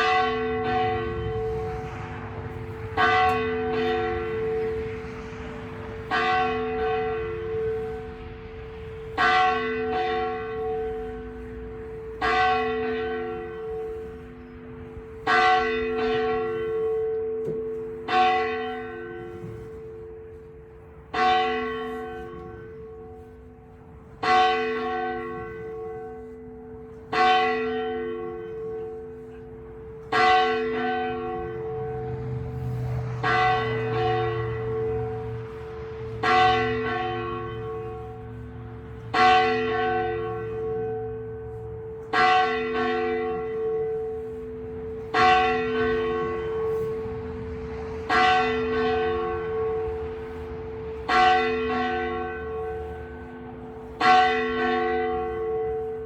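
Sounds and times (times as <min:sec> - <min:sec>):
church bell tolling: 0:00.0 - 0:56.0.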